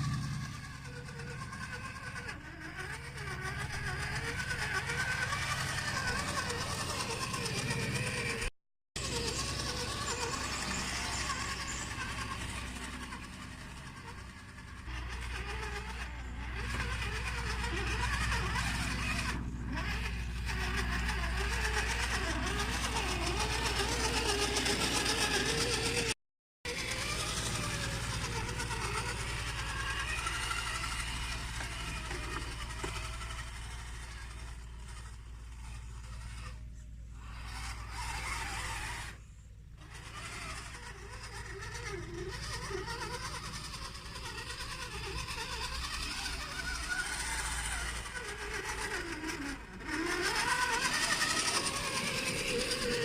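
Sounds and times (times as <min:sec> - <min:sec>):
rc car electric motor whining: 0:00.0 - 0:53.0.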